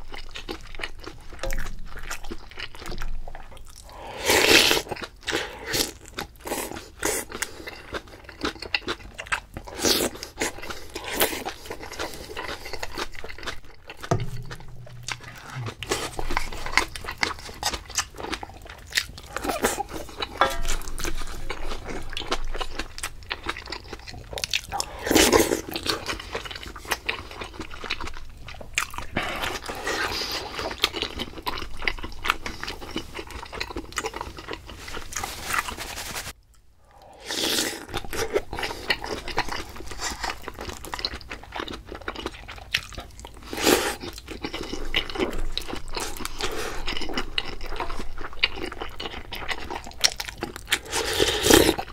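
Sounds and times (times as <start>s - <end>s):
person chewing and biting food: 0.0s - 36.6s, 37.2s - 51.9s.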